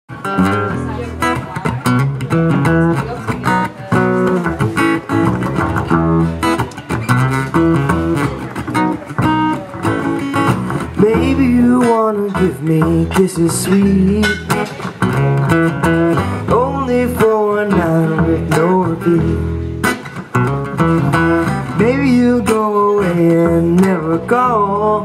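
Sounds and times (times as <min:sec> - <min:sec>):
acoustic guitar: 0:00.1 - 0:25.0
plucked upright bass: 0:00.1 - 0:25.0.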